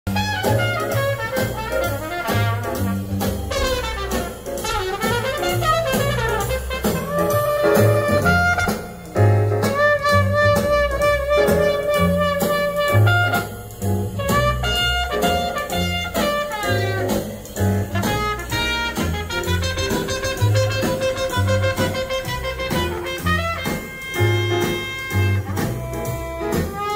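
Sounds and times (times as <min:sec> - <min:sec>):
jazz music through loudspeakers: 0:00.1 - 0:26.9.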